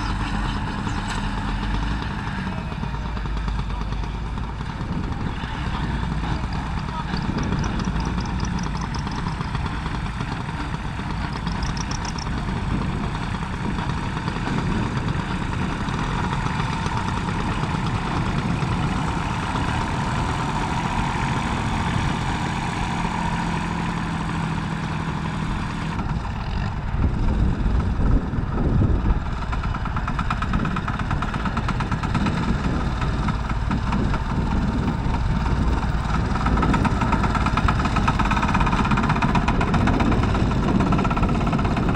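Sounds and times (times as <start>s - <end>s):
tractor engines running: 0.0s - 41.9s.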